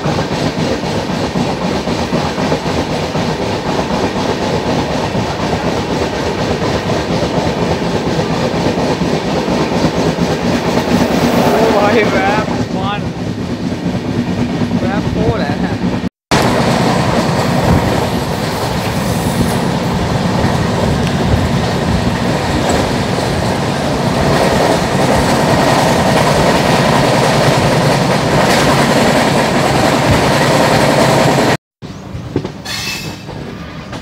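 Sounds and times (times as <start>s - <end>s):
train wheel and rail noise: 0.0s - 34.0s.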